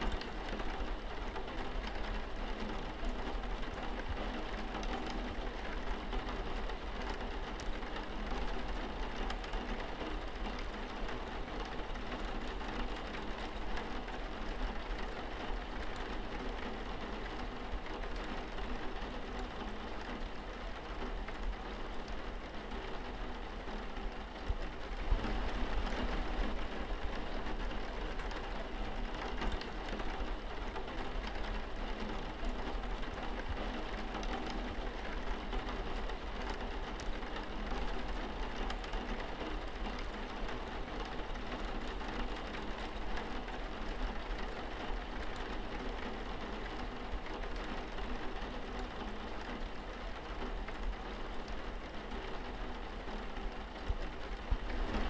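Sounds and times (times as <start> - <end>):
rain pattering on window glass: 0.0 - 55.0.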